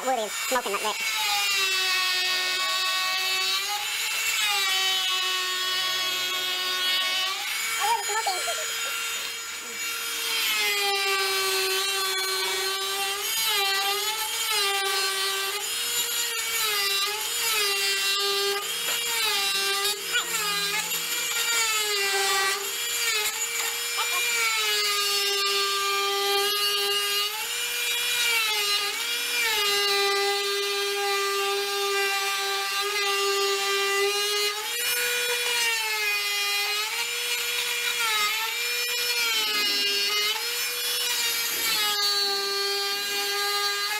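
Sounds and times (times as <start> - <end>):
rotary tool grinding into log: 0.0 - 30.1, 31.2 - 43.9.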